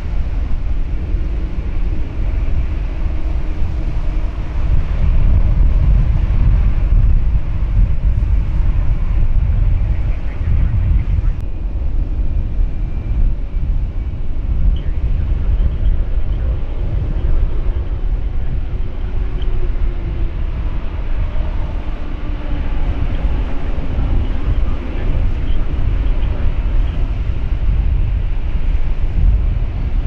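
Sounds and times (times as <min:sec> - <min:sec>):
jet engines whining: 0:00.0 - 0:30.0
wind buffeting microphone: 0:00.0 - 0:30.0.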